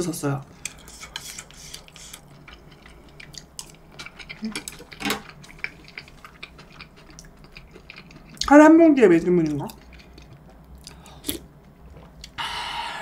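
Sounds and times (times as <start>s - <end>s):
soft chewing: 0.5s - 12.4s.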